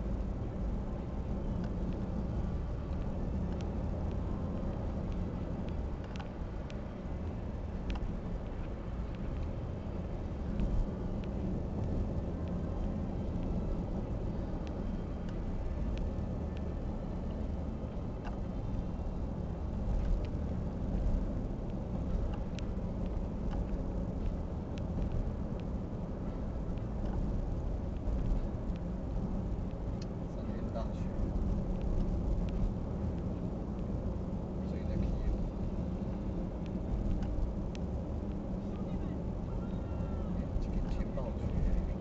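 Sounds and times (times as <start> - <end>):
engine rumble: 0.0 - 42.0
faint clicks and taps: 1.5 - 9.7, 10.5 - 38.9.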